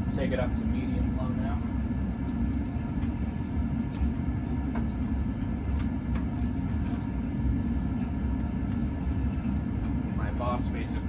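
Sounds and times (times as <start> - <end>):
ceiling fan humming: 0.0 - 11.0
squeaky fan bearings: 0.0 - 11.0.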